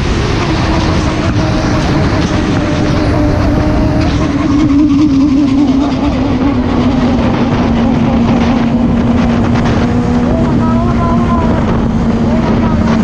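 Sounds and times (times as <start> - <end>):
motorcycle engine running hard: 0.0 - 13.0
wind rush on microphone: 0.0 - 13.0.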